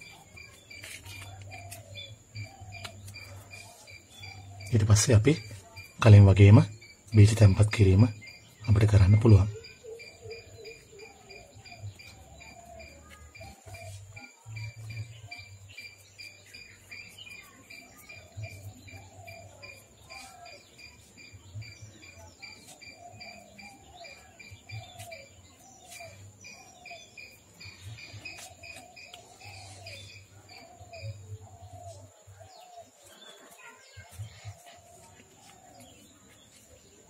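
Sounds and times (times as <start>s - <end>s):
rapid insect chirps: 0.0s - 37.0s.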